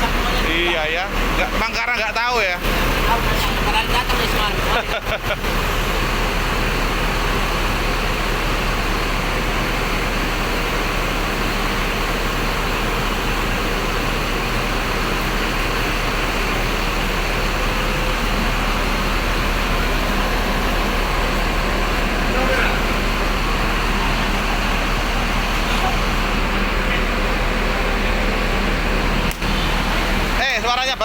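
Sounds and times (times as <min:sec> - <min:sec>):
bus engine hum: 0:00.0 - 0:31.0
road and air noise: 0:00.0 - 0:31.0.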